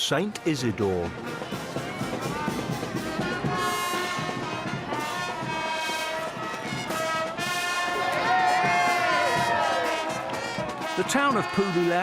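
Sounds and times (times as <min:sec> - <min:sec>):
brass music with held notes: 0:00.0 - 0:12.0.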